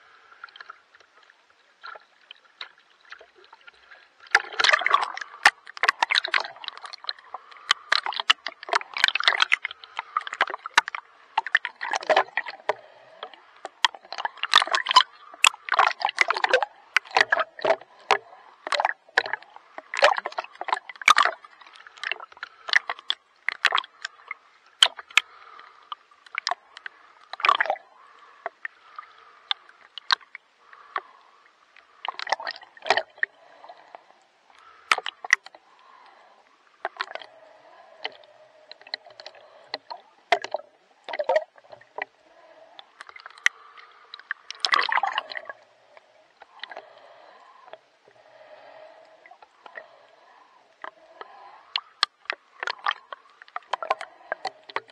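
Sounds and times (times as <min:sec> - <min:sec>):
water splashing from swimming: 0:01.8 - 0:54.9.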